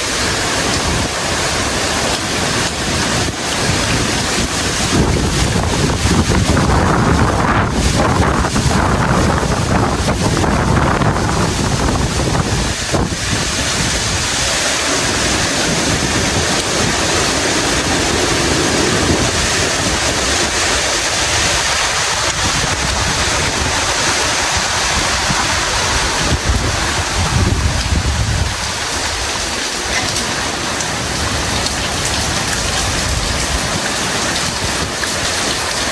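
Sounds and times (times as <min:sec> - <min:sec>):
heavy rain hiss: 0:00.0 - 0:35.9
wind buffeting microphone: 0:00.0 - 0:35.9.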